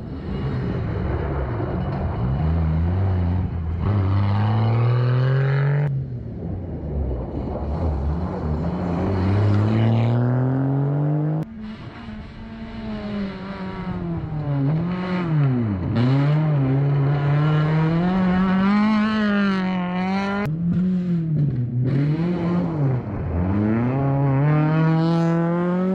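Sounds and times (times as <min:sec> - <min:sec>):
rally car engine revving: 0:00.0 - 0:25.9.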